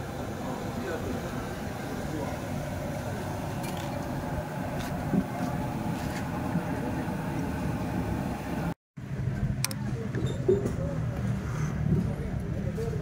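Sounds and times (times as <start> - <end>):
background chatter: 0.0 - 7.9, 9.4 - 13.0
steady roar and hum: 0.0 - 13.0.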